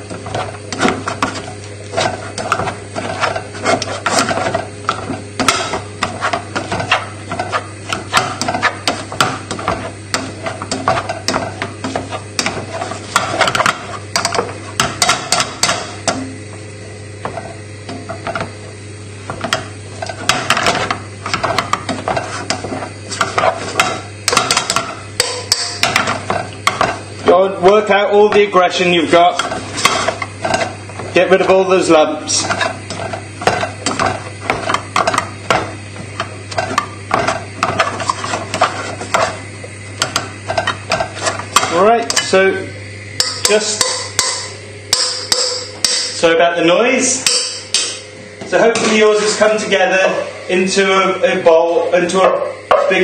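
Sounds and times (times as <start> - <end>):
potato masher knocking and scraping pan: 0.0 - 16.4, 17.2 - 42.5, 43.2 - 46.3, 52.1 - 53.0.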